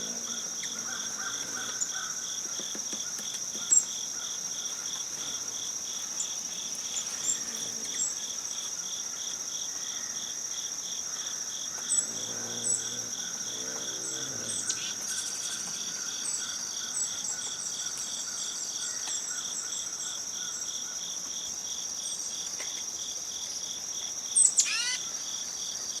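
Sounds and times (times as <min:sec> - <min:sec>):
crickets and insects chirping: 0:00.0 - 0:26.0.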